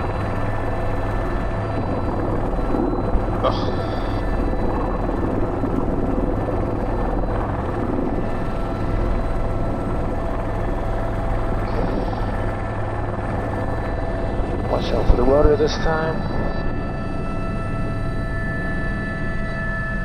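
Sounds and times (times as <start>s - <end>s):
helicopter rotor beat: 0.0s - 20.0s
turbine whine: 0.0s - 20.0s.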